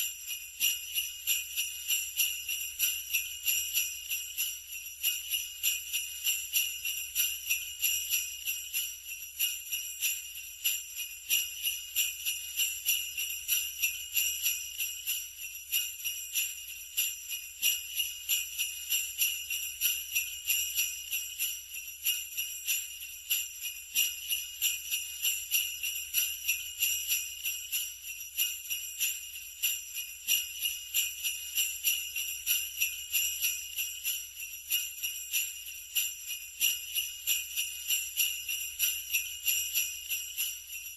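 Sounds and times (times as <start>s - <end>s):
sleigh bells jingling: 0.0s - 40.9s.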